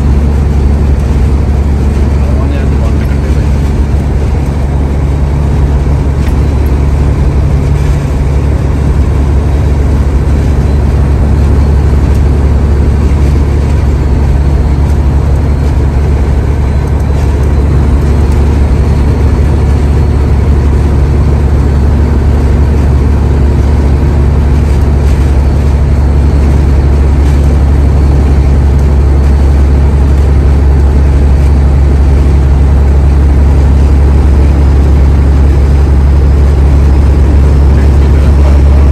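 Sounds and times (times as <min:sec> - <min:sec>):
diesel truck engine drone: 0:00.0 - 0:38.9
road noise: 0:00.0 - 0:38.9.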